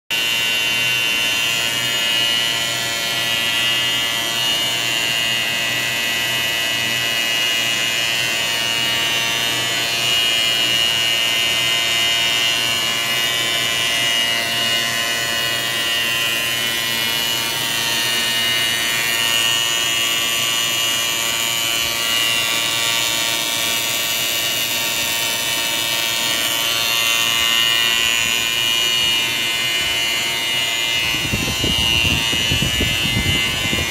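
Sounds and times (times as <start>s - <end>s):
brush trimming machine whine: 0.1s - 33.9s.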